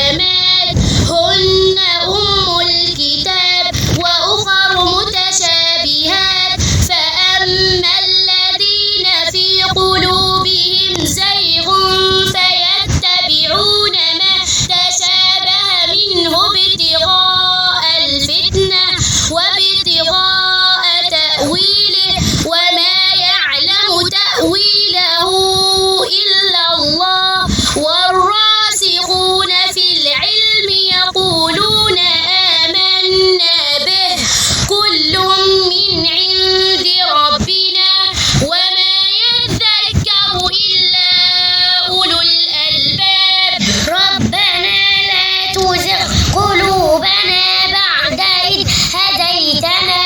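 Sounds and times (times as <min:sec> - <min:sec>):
girl chanting recitation: 0:00.0 - 0:50.0.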